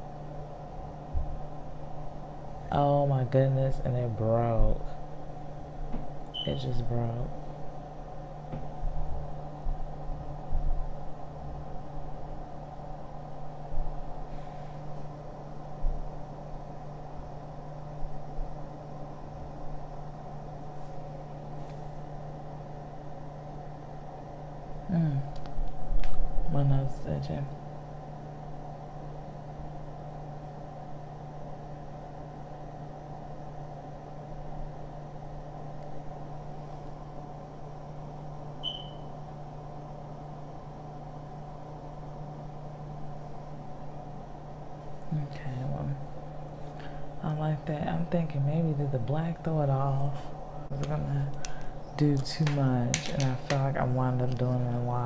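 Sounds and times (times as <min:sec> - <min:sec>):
low machine hum: 0:00.0 - 0:55.0.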